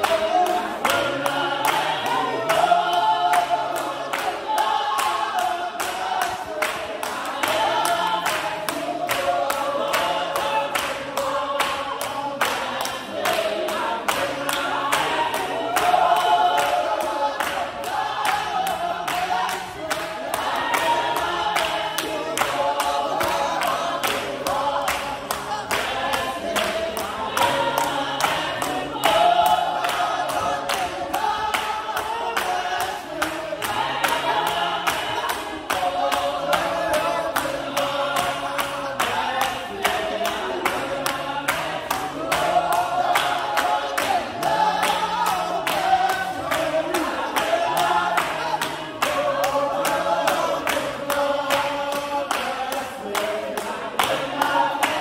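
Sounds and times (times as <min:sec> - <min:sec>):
congregation singing a hymn: 0:00.0 - 0:55.0
handclaps: 0:00.0 - 0:55.0.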